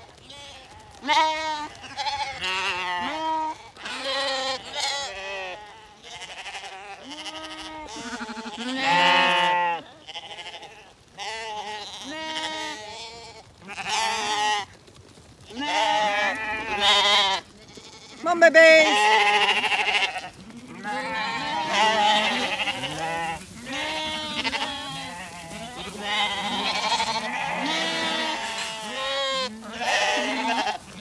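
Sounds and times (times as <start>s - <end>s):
lambs bleating: 0.0s - 14.8s, 15.5s - 31.0s.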